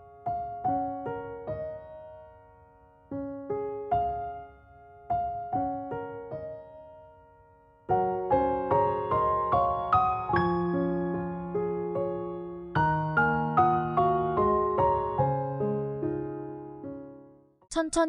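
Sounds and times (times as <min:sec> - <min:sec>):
gentle piano music: 0:00.0 - 0:17.6.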